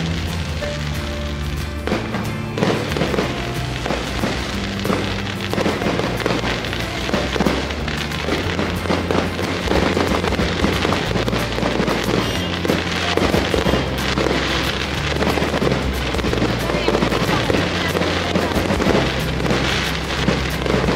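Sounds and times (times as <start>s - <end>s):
fireworks bursting and crackling: 0.0s - 20.9s
music playing: 0.0s - 20.9s.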